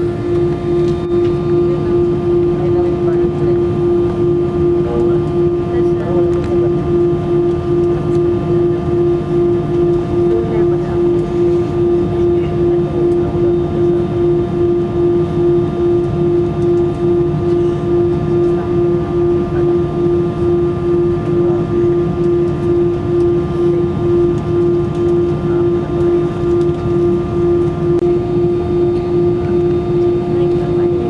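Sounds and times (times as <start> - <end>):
airplane cabin engine drone: 0.0 - 31.0.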